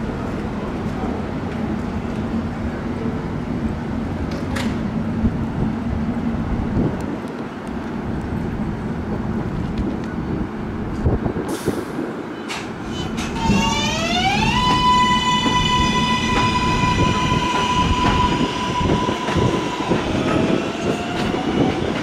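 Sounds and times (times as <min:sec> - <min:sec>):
subway train equipment humming: 0:00.0 - 0:22.0.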